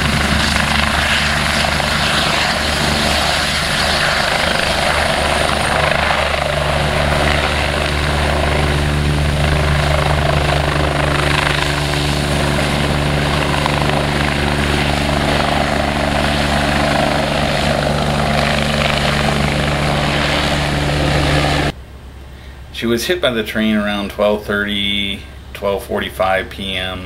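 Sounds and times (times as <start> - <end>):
helicopter rotor and engines: 0.0 - 21.8.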